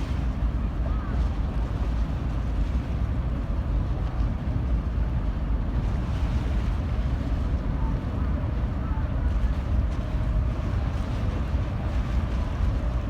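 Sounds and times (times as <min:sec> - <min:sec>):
ferry engine and water rumble: 0:00.0 - 0:13.0.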